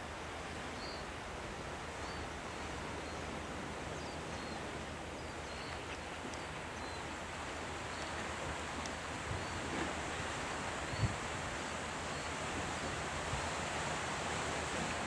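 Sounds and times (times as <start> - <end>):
sea on rocky shore: 0.0 - 15.0
wind: 0.0 - 15.0.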